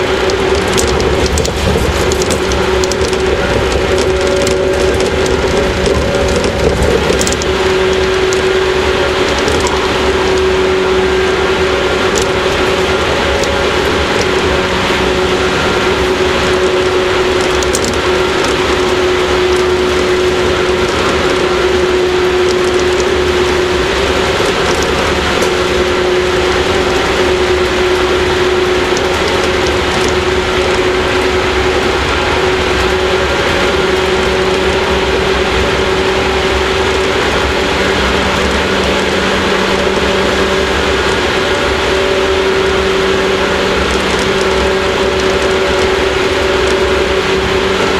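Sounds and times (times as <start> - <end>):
light track clicks: 0.0 - 10.6, 11.6 - 47.9
train traction motor whine: 0.0 - 47.9
wheel and rail rumble: 0.0 - 47.9.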